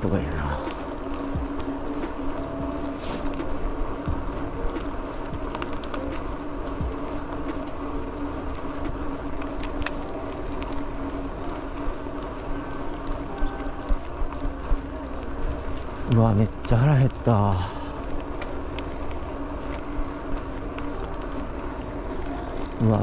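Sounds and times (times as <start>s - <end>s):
bike tyres rolling: 0.0s - 23.0s
faint clicks and ticks: 0.0s - 23.0s
low steady hum: 0.0s - 23.0s.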